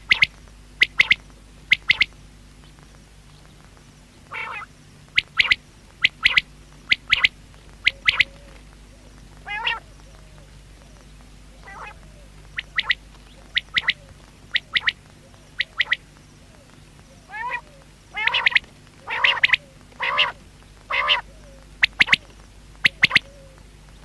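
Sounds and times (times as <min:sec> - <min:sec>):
quail calling: 0:00.0 - 0:02.2, 0:04.2 - 0:23.6.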